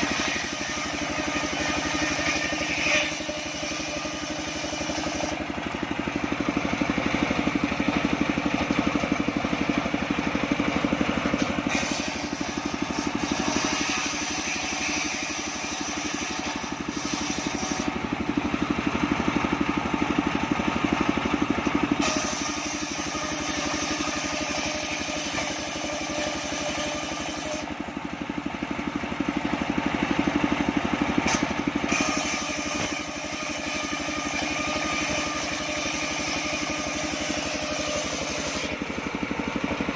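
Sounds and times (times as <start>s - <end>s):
circular saw cutting wood: 0.0s - 29.2s, 30.0s - 39.9s.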